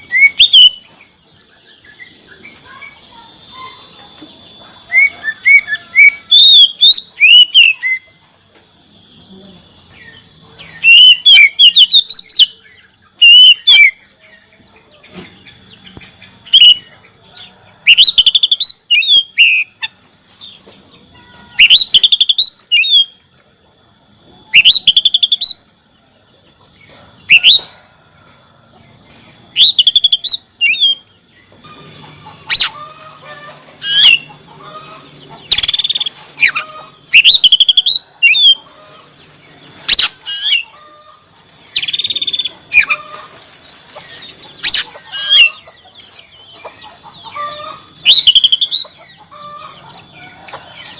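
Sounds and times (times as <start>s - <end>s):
songbird trills and whistles: 0.0s - 14.6s, 15.4s - 20.6s, 21.2s - 23.2s, 24.4s - 25.7s, 27.2s - 27.8s, 29.5s - 33.1s, 33.8s - 38.7s, 39.7s - 40.8s, 41.6s - 50.9s.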